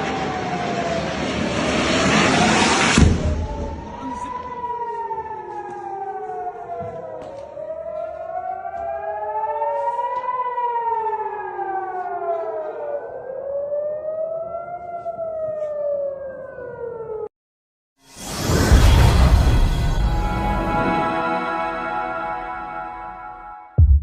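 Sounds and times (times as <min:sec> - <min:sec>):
air-raid sirens wailing: 0:00.0 - 0:17.3, 0:19.2 - 0:23.7.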